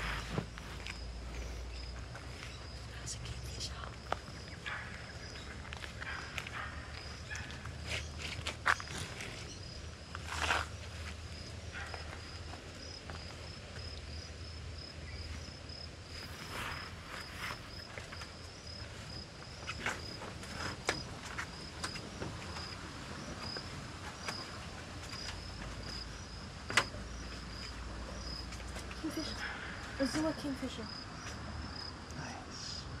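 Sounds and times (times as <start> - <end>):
insect chirping: 0.0 - 33.0.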